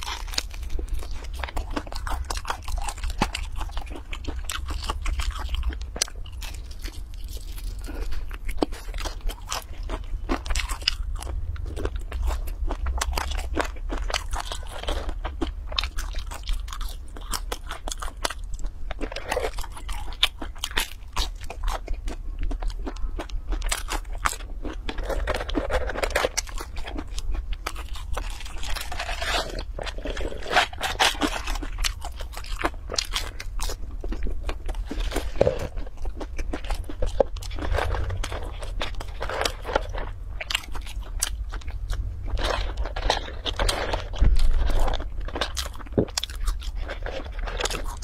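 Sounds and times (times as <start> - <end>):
crunchy food being chewed: 0.0 - 48.0.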